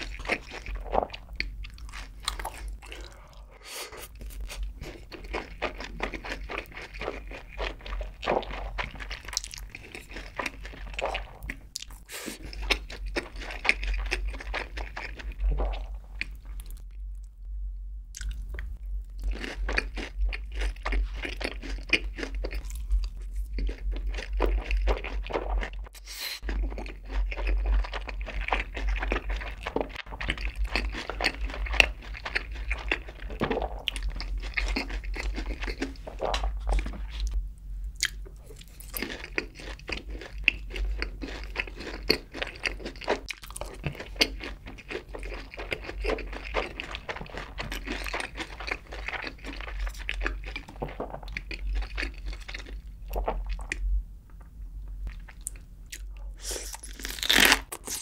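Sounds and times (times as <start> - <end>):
chewing and crunching: 0.0 - 17.0, 18.2 - 37.4, 38.0 - 54.4, 55.0 - 58.0.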